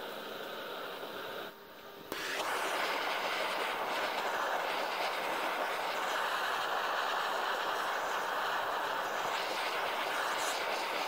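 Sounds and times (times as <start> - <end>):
torch flame hissing: 0.0 - 11.0
torch ignition click: 2.1 - 11.0.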